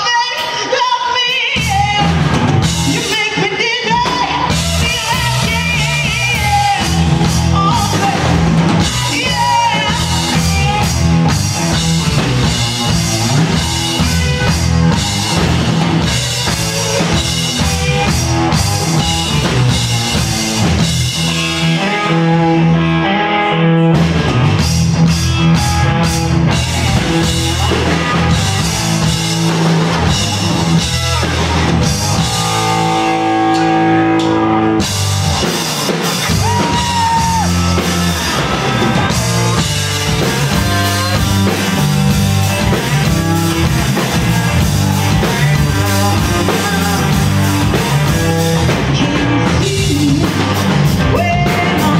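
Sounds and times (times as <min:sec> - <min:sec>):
rock band playing live: 0:00.0 - 0:51.9.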